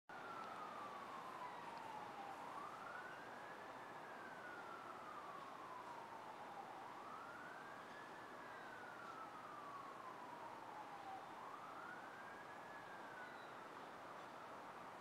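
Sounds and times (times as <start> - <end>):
city traffic hiss: 0.1 - 15.0
distant siren wailing: 0.1 - 15.0.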